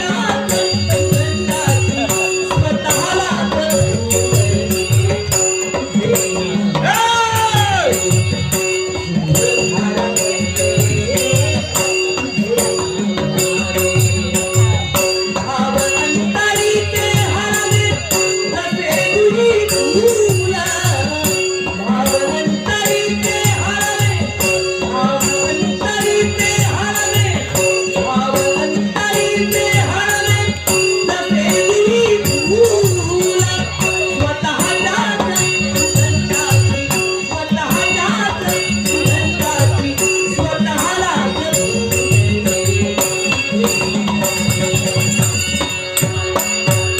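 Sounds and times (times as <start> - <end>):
drum beats: 0.0 - 46.9.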